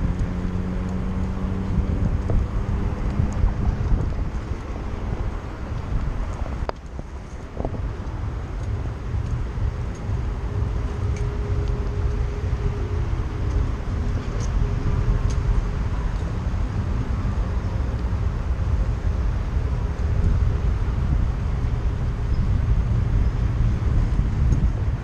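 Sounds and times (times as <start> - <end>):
road noise rumble: 0.0 - 25.0
street traffic: 0.0 - 25.0
wind on microphone: 0.0 - 25.0.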